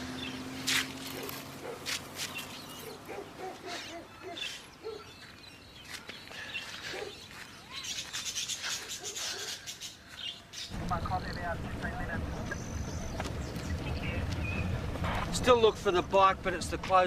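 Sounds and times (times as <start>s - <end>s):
birds chirping and calling: 0.0s - 16.7s.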